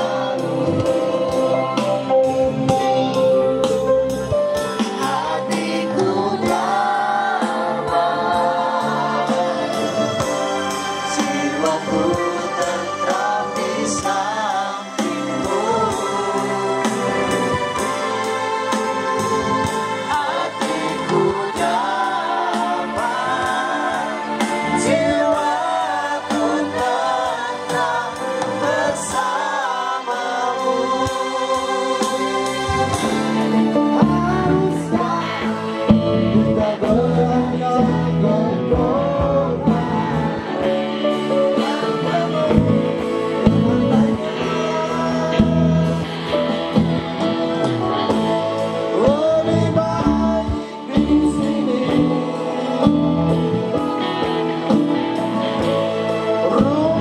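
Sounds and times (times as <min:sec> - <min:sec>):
live band with electric guitars: 0:00.0 - 0:57.0
person singing into microphone: 0:04.6 - 0:18.0, 0:19.4 - 0:57.0.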